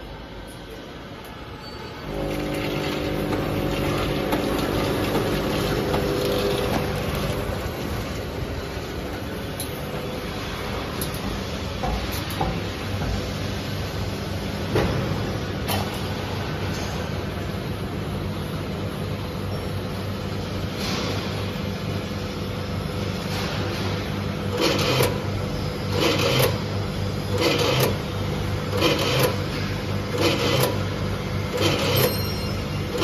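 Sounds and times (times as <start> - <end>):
packing machinery humming: 0.0 - 33.0.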